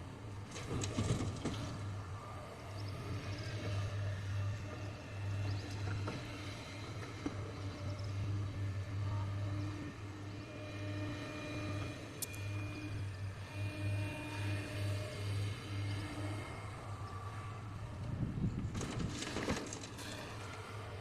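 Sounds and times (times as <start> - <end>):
excavator diesel engine running: 0.1 - 19.8.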